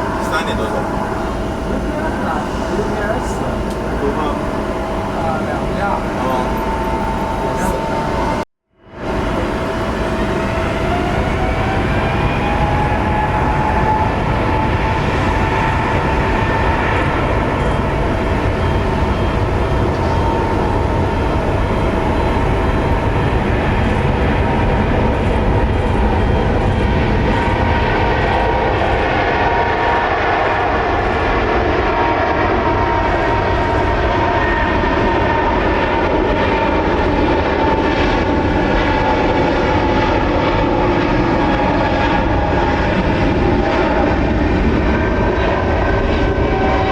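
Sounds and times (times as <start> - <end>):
jet engines rumbling and whining: 0.0 - 46.9.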